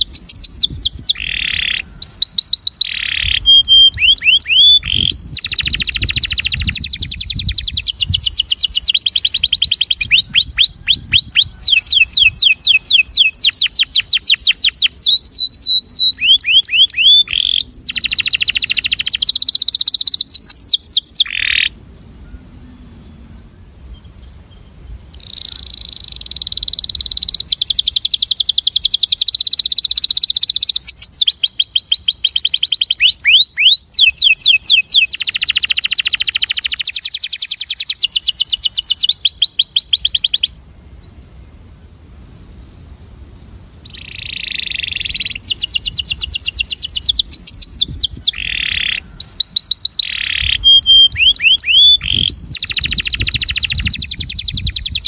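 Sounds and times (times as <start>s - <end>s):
canary singing trills: 0.0s - 22.9s, 24.0s - 41.6s, 43.8s - 55.0s.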